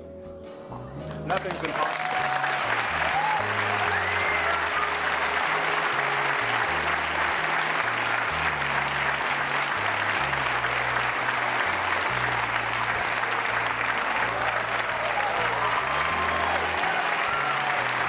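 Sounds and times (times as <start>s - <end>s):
audience applauding: 1.1s - 18.0s
bass line: 2.3s - 18.0s.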